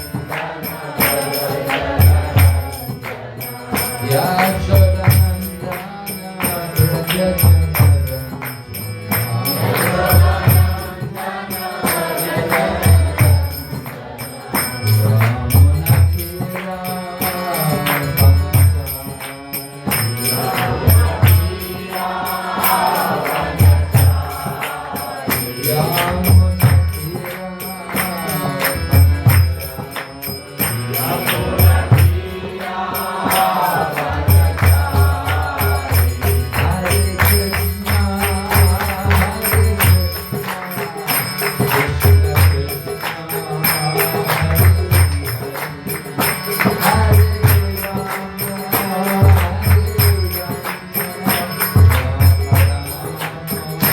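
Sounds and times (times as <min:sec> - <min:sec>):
small cymbals jingling: 0:00.0 - 0:53.9
voices singing a chant: 0:00.0 - 0:53.9.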